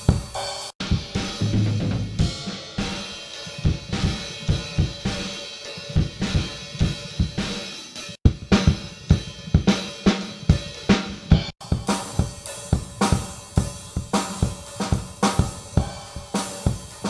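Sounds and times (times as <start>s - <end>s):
drum kit groove: 0.0s - 17.0s.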